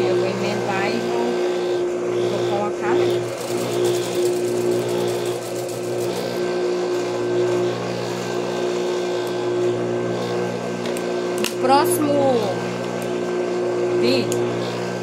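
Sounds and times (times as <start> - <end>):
sewing machine humming: 0.0 - 15.0.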